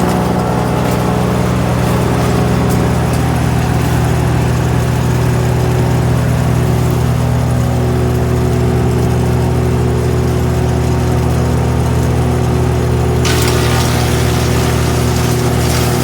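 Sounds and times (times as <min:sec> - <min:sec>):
wood chipper engine running: 0:00.0 - 0:16.0.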